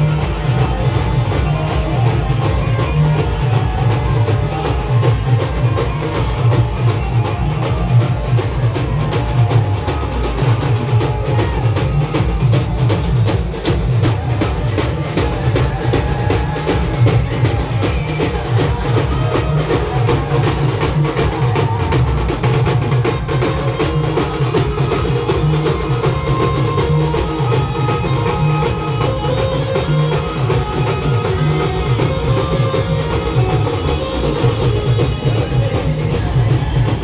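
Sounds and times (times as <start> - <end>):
band music with fast drumming: 0.0 - 37.0.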